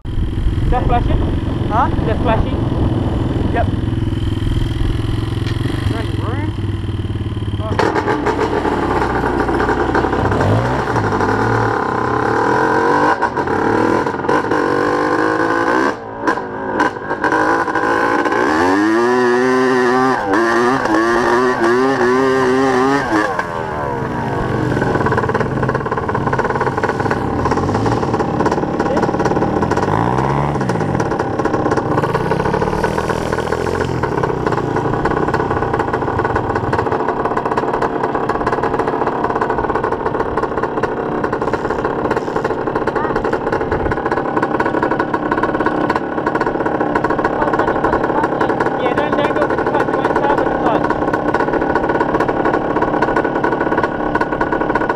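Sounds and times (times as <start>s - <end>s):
dirt bike engines revving: 0.1s - 54.9s.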